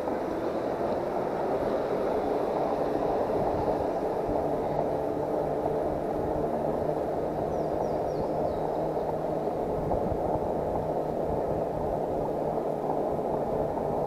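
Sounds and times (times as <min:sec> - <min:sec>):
faint steady hum: 0:00.0 - 0:14.0
tyre noise on road: 0:00.0 - 0:14.0.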